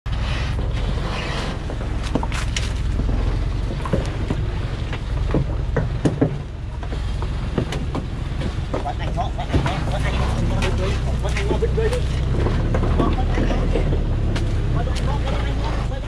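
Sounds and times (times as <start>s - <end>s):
truck diesel engine rumbling: 0.1s - 16.0s.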